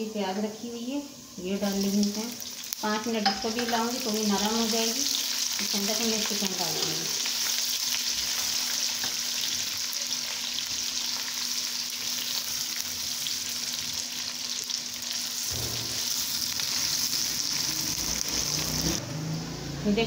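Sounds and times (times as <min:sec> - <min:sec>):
onions sizzling in oil: 0:00.0 - 0:19.0.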